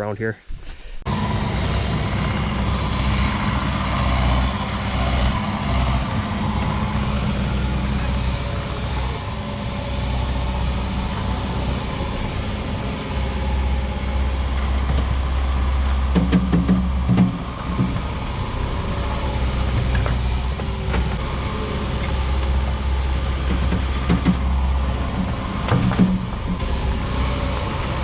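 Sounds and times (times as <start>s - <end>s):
skid steer engine running: 0.8s - 28.0s.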